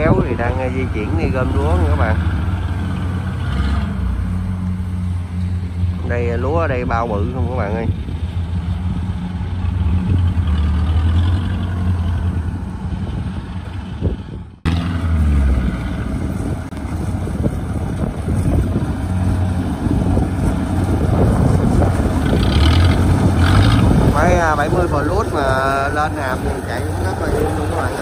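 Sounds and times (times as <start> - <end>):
diesel engines humming: 0.0 - 28.0.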